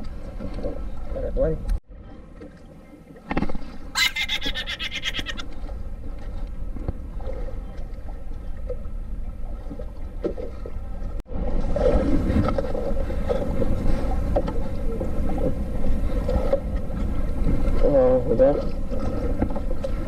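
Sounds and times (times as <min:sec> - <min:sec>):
water lapping against boat: 0:00.0 - 0:20.0
wind rumbling on microphone: 0:03.3 - 0:20.0.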